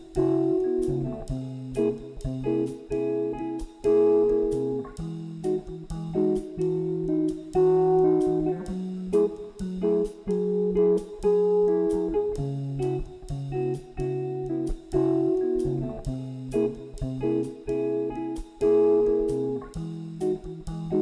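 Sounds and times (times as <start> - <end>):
guitar picking and strumming: 0.0 - 21.0.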